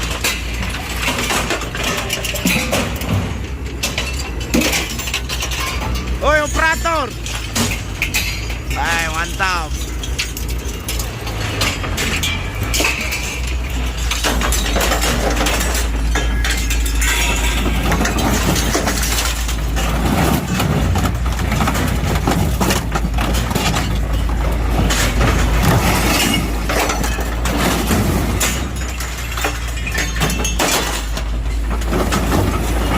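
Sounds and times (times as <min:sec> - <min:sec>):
excavator engine running: 0:00.0 - 0:32.9
glass breaking: 0:00.0 - 0:32.9
hydraulic shear crushing metal: 0:00.0 - 0:32.9.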